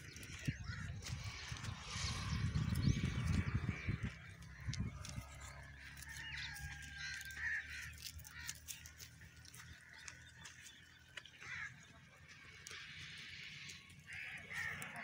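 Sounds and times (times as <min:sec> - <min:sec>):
animals chewing dry grass: 0:00.0 - 0:15.0
birds calling: 0:00.0 - 0:15.0.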